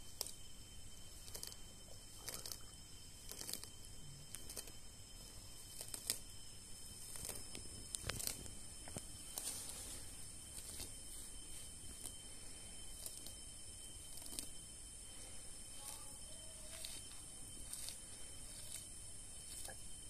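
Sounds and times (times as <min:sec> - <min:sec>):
tortoise crunching and ripping grass: 0:01.1 - 0:03.7, 0:04.3 - 0:06.3, 0:07.0 - 0:14.6, 0:15.8 - 0:20.0.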